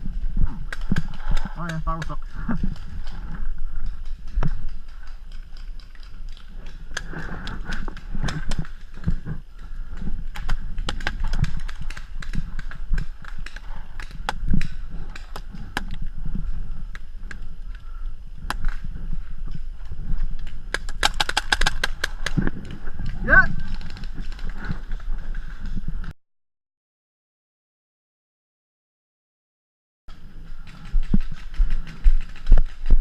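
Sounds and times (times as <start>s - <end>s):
wind rumble: 0.0s - 26.1s, 30.1s - 33.0s.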